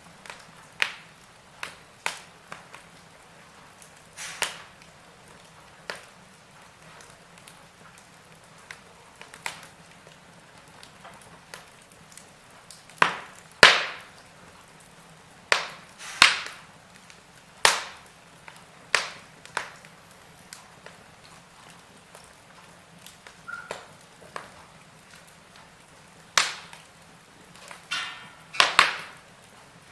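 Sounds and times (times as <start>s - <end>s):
faint steady hiss: 0.0s - 29.9s
wood fire crackling: 0.0s - 29.9s.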